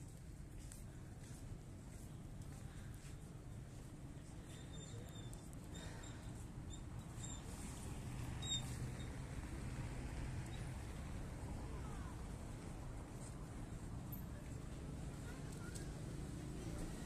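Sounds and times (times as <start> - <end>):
low hum of traffic: 0.0 - 17.0.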